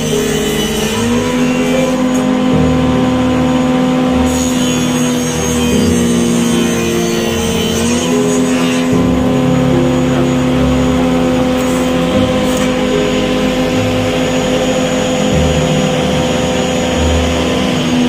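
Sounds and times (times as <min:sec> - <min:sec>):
electric motor humming: 0:00.0 - 0:18.0.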